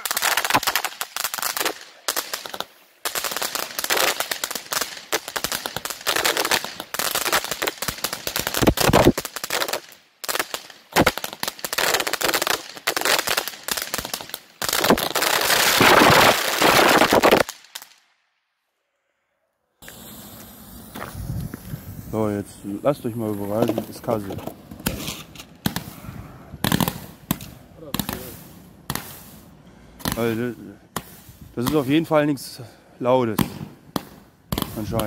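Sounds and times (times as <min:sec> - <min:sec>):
firework battery crackling: 0:00.0 - 0:18.3, 0:19.8 - 0:35.0.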